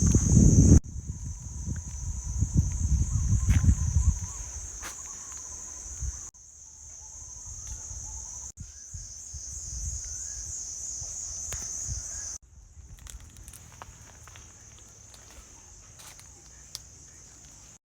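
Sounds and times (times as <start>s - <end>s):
insects shrill drone: 0.0s - 17.8s.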